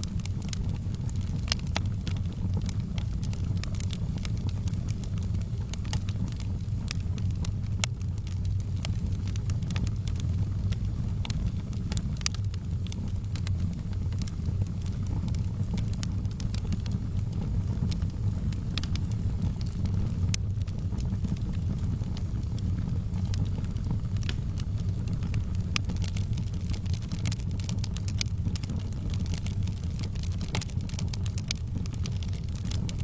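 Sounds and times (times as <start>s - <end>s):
wood fire crackling: 0.0s - 33.0s
sharp pops and snaps: 0.1s - 33.0s.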